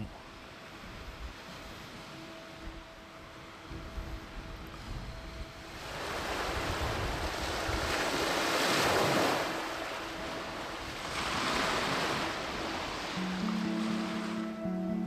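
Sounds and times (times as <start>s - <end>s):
wind buffeting microphone: 0.0s - 13.2s
waves washing against shore: 0.0s - 15.0s.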